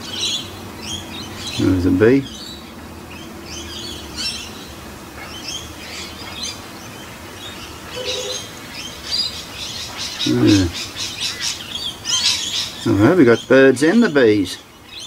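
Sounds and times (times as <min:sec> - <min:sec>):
birds chirping and calling: 0:00.0 - 0:15.0
rapidly repeated bird notes: 0:00.0 - 0:15.0.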